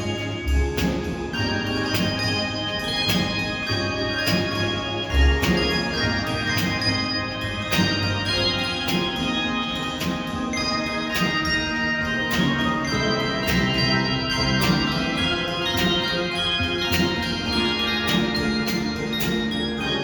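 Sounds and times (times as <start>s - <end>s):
handbell choir playing: 0.0s - 20.0s.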